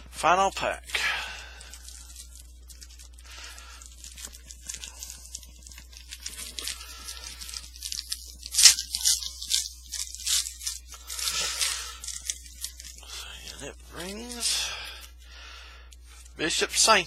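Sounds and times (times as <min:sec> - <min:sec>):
foil pack tearing and crinkling: 0:00.5 - 0:15.0.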